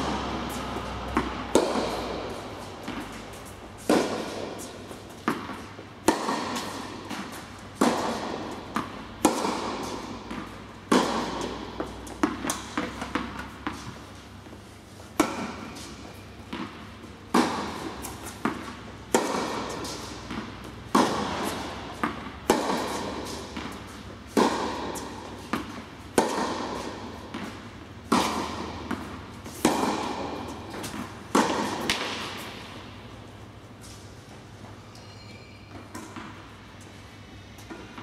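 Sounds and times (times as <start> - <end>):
tennis ball hit by racket: 0.0 - 14.0, 15.2 - 33.2
tennis ball bounces: 0.0 - 33.3.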